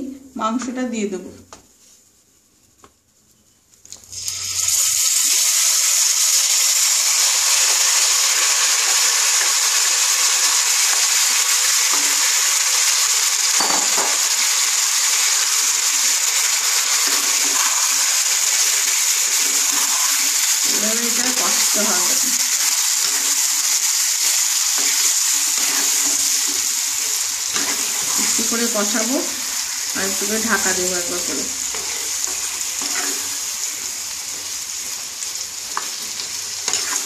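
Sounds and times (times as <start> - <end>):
chicken sizzling in hot oil: 3.9 - 37.0.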